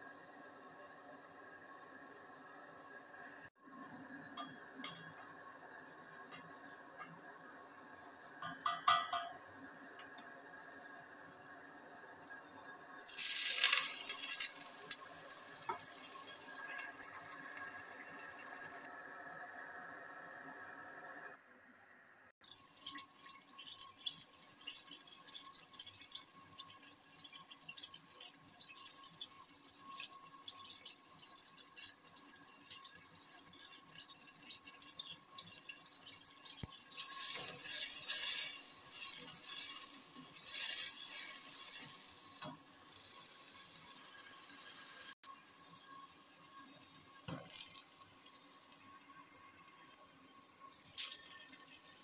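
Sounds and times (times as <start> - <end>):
onions sizzling in oil: 0.0 - 20.8, 22.4 - 52.0.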